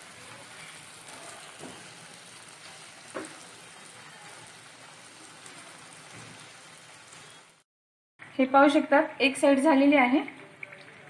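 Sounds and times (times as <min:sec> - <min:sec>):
oil sizzling and bubbling: 0:00.0 - 0:11.0.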